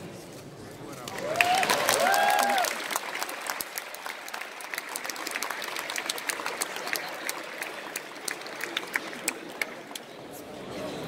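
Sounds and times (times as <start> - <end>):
audience applauding: 1.0 - 10.1.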